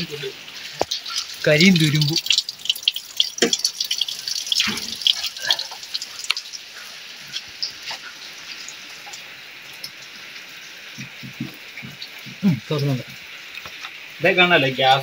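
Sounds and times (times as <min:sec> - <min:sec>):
running water hiss: 0:00.0 - 0:15.0
water dripping onto ground: 0:00.0 - 0:15.0.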